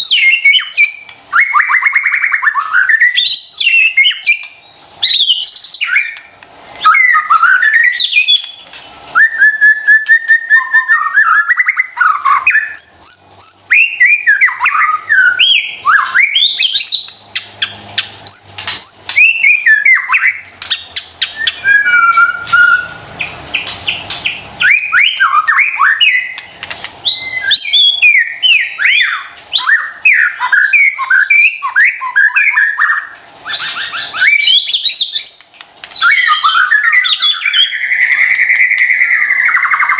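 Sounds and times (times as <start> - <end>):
bird singing whistled phrases: 0.0 - 17.2, 18.1 - 26.4, 27.0 - 39.9.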